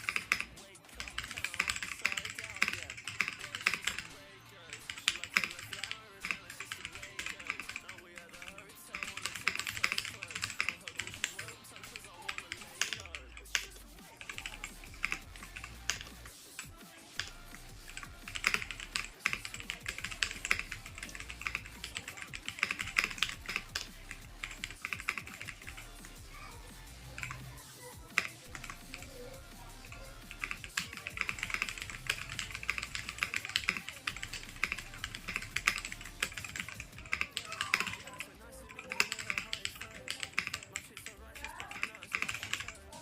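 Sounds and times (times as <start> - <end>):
mechanical keyboard typing: 0.0 - 43.0.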